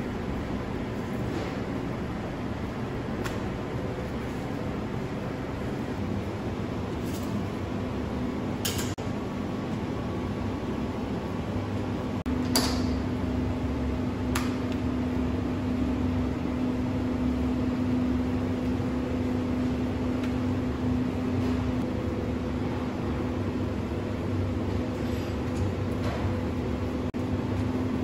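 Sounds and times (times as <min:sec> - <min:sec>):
kitchen machinery humming: 0:00.0 - 0:28.0.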